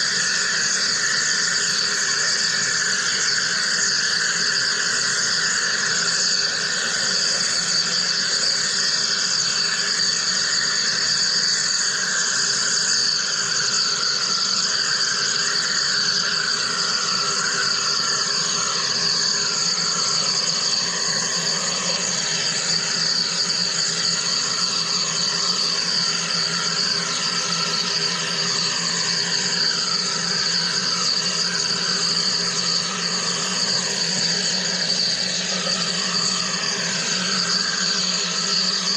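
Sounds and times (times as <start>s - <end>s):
machine high hiss: 0.0s - 38.9s.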